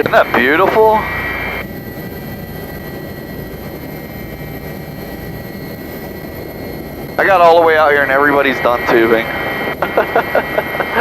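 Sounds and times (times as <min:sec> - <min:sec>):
helicopter engine and rotor rumble: 0:00.0 - 0:11.0.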